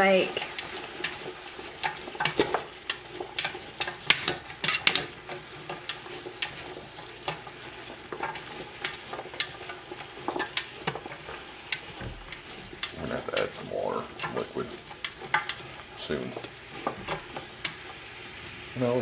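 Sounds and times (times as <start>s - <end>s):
spatula stirring in pot: 0.0s - 18.8s
meat and vegetables sizzling: 0.0s - 19.0s.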